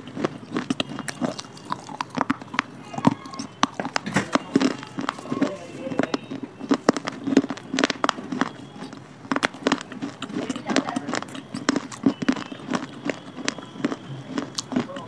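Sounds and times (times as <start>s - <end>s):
crunching dry clay: 0.0s - 15.0s.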